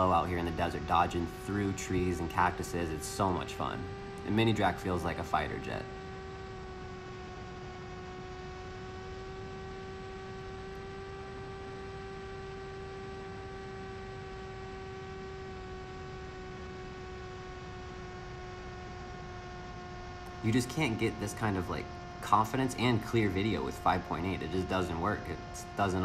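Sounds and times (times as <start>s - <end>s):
electric motor and propeller hum: 0.0s - 26.0s.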